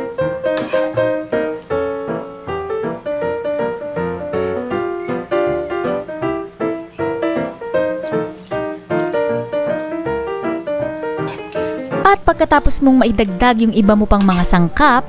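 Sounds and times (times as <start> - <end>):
cheerful piano waltz: 0.0 - 15.0.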